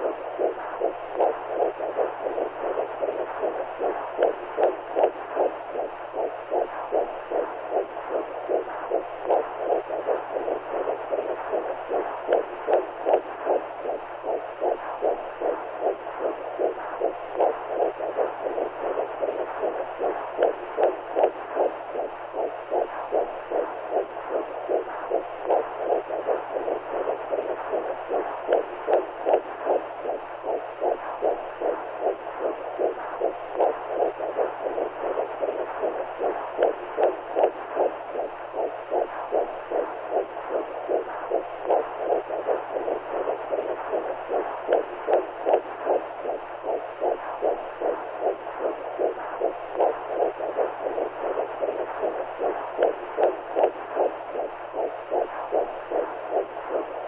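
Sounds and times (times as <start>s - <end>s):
heartbeat pulse: 0.0s - 57.0s
low steady hum: 0.0s - 57.0s.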